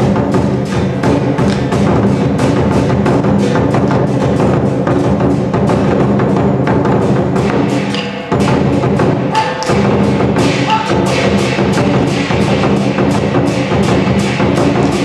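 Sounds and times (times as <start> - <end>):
big drum beating: 0.0 - 15.0
cymbals clashing: 0.0 - 15.0.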